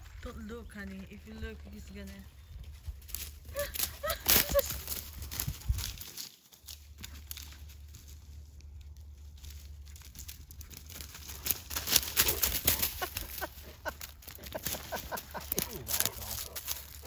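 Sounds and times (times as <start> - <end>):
dry leaves crunching underfoot: 1.6 - 17.0.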